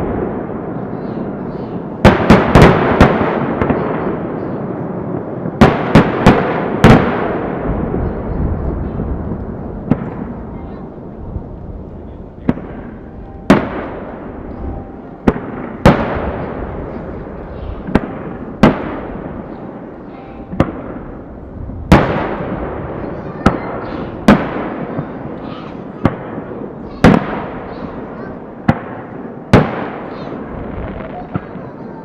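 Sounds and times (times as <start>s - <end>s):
firework shells booming: 0.0s - 11.0s, 12.4s - 14.6s, 15.2s - 31.8s.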